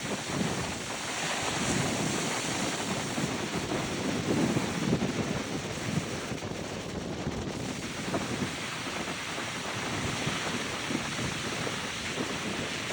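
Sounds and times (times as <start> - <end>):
rough sea waves breaking: 0.0 - 12.9
wind buffeting microphone: 0.0 - 12.9.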